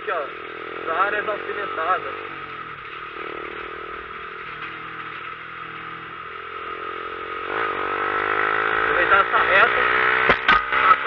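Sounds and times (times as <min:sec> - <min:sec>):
motorcycle engine accelerating: 0:00.0 - 0:11.0
wind and road noise: 0:00.0 - 0:11.0.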